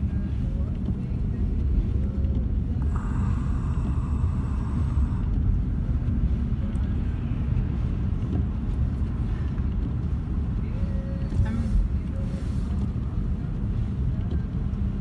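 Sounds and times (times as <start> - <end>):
car engine and tyres rumble: 0.0 - 15.0.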